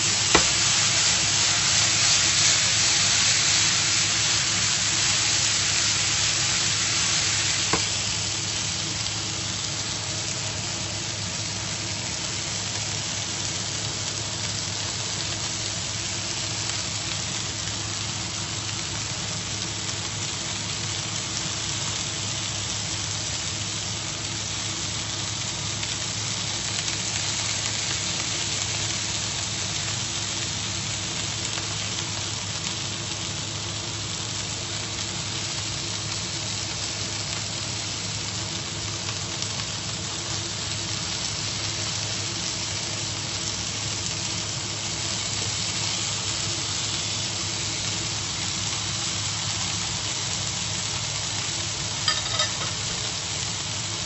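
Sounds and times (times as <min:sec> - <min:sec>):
beef sizzling in a frying pan: 0:00.0 - 0:54.0.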